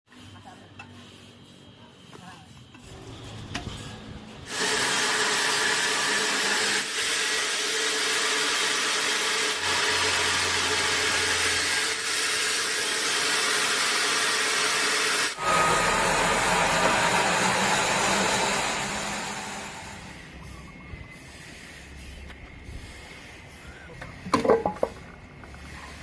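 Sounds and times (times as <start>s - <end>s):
sawmill machinery running: 0.2s - 26.0s.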